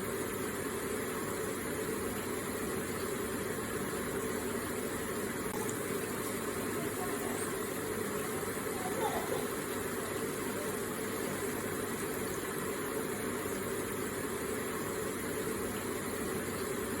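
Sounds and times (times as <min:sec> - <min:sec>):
water falling and trickling: 0:01.8 - 0:17.0.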